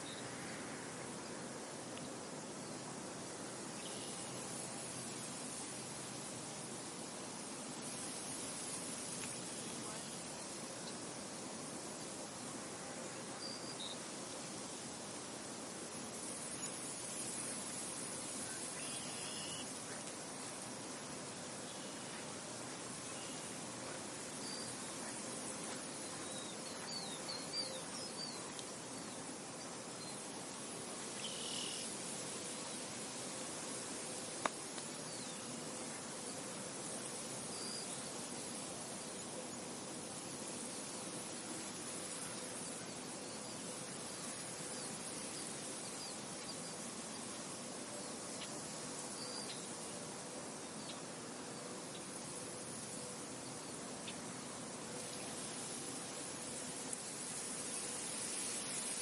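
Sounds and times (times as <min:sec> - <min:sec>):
wind rustling wheat: 0:00.0 - 0:59.0.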